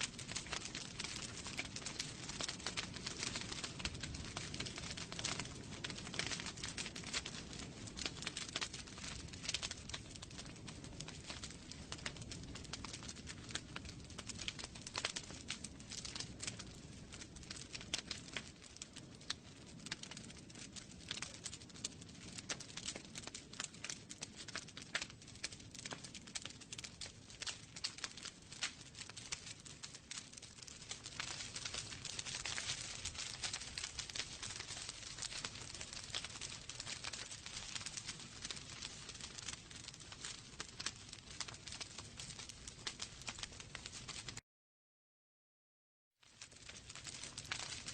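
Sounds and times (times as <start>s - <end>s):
logs crackling and popping: 0.0s - 44.4s, 46.2s - 47.9s
low rumble of flame: 0.0s - 44.4s, 46.2s - 47.9s.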